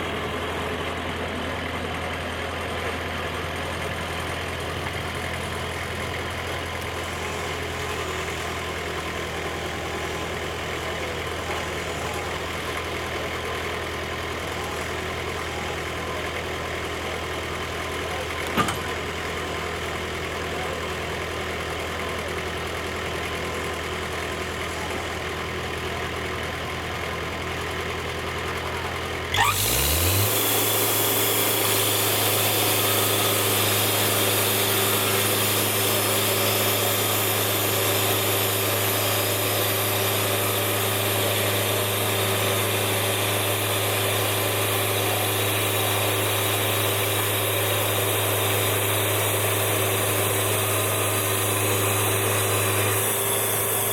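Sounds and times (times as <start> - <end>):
sawmill engine idling and revving: 0.0 - 53.9.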